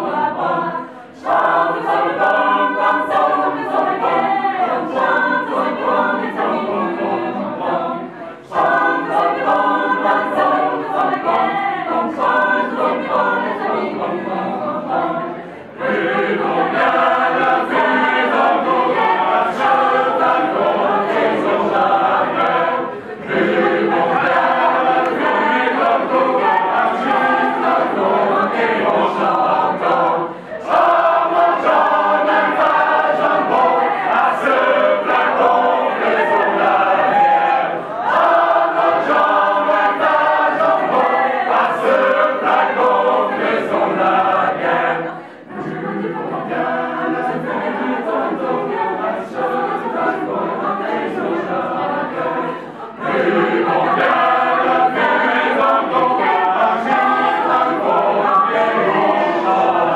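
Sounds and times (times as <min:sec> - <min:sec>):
group singing unaccompanied: 0:00.0 - 0:59.9.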